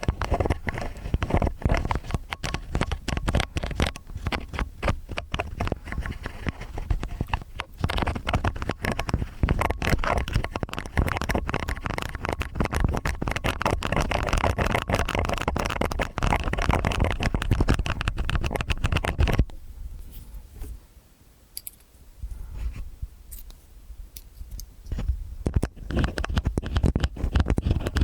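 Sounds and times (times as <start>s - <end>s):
ear picks scraping: 0.0s - 20.8s, 24.2s - 28.0s.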